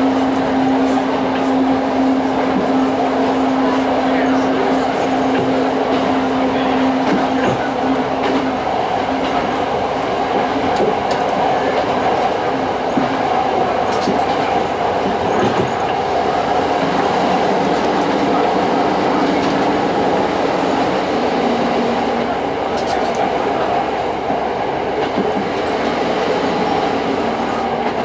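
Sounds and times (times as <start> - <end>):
diesel railcar engine drone: 0.0 - 28.0
wheels rumbling on rails: 0.0 - 28.0.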